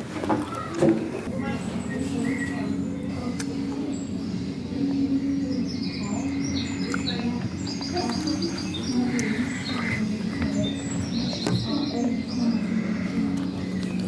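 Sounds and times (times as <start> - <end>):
birds chirping and trilling: 0.0 - 14.0
steady low hum: 0.0 - 14.0.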